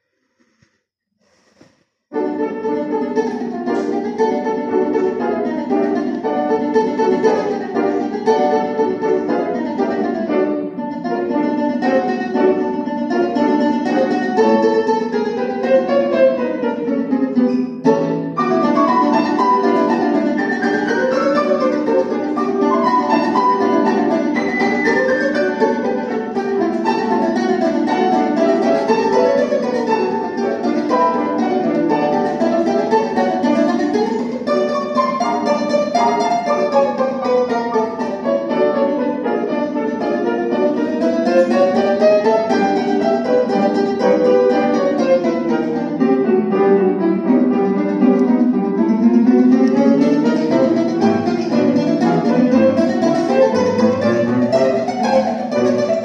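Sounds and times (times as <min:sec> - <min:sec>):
piano accompaniment: 0:02.1 - 0:56.0
domra plucked runs: 0:02.2 - 0:56.0.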